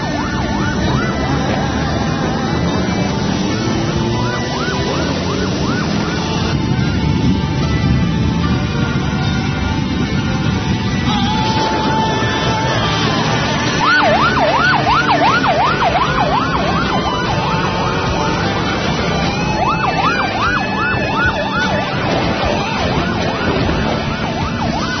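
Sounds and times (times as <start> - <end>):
motorcycle engines running: 0.0 - 25.0
yelp siren wavering: 0.0 - 25.0.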